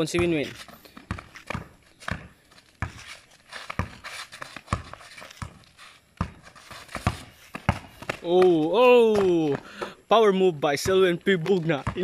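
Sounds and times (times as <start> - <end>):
basketball bouncing on concrete: 0.0 - 10.0, 10.7 - 12.0.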